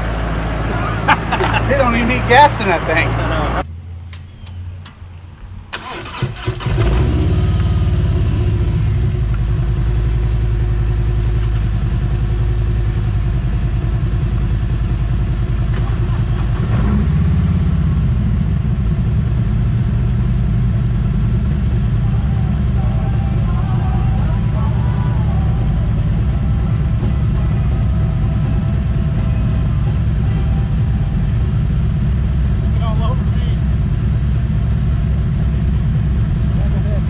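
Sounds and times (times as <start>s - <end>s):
motorcycle engine starting and idling: 4.1s - 37.0s.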